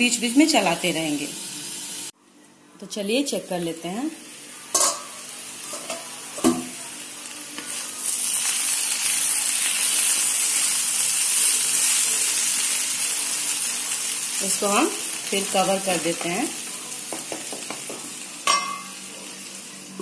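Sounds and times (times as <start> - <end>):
potatoes sizzling in oil: 0.0 - 2.1, 3.5 - 20.0.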